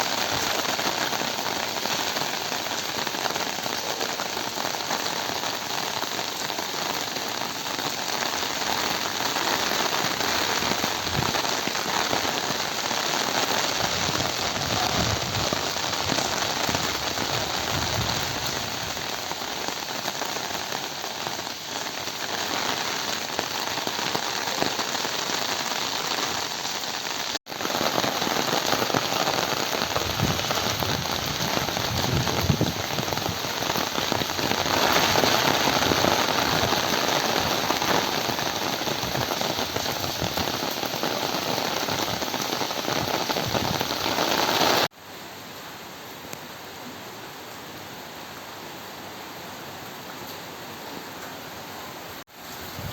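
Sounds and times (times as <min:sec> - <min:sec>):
steady rain pattering: 0:00.0 - 0:52.9.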